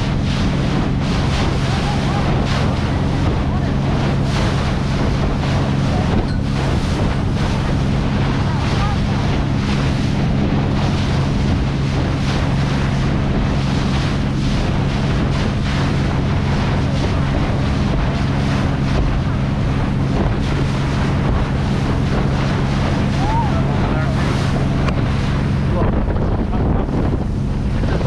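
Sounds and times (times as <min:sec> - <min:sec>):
boat engine drone: 0:00.0 - 0:28.0
water rushing against hull: 0:00.0 - 0:28.0
wind buffeting microphone: 0:00.0 - 0:28.0.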